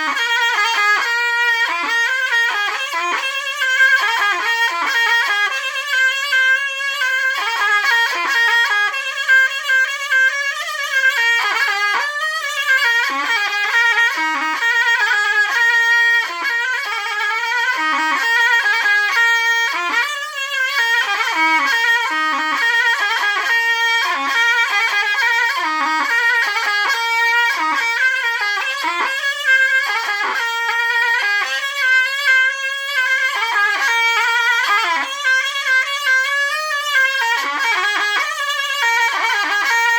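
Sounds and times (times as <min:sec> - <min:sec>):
zurna playing folk melody: 0:00.0 - 0:39.9.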